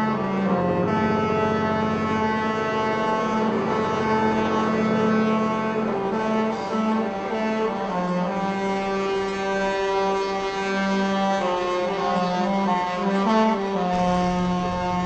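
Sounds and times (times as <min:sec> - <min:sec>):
ship's musical horn playing: 0:00.0 - 0:15.0.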